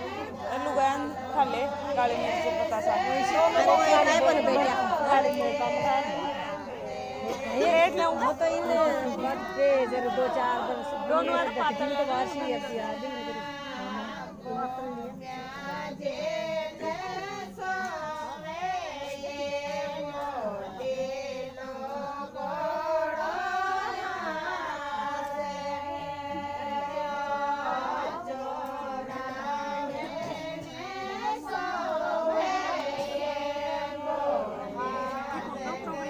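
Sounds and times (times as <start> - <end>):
person singing folk song: 0.0 - 36.0.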